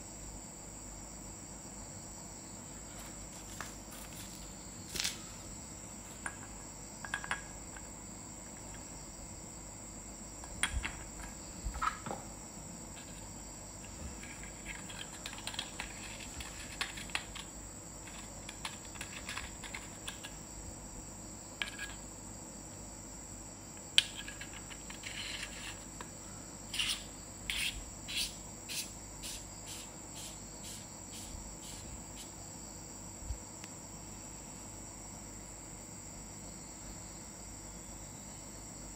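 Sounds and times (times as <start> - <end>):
insect chirring: 0.0 - 34.4.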